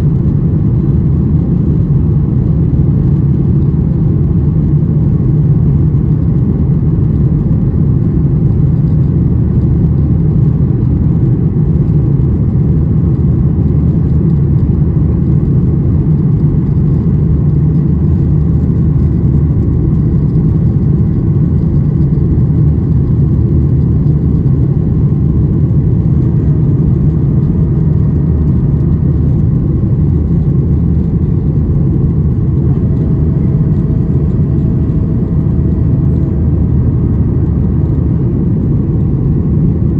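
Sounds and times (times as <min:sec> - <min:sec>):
airplane cabin rumble: 0:00.0 - 0:39.9
faint steady hum: 0:00.0 - 0:39.9.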